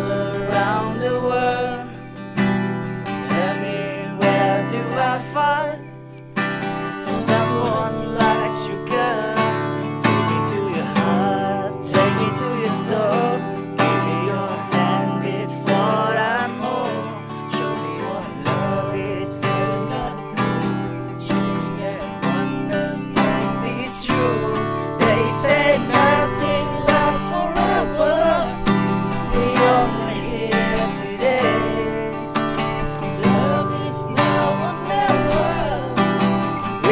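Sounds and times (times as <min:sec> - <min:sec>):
acoustic guitar strumming chords: 0:00.0 - 0:36.9.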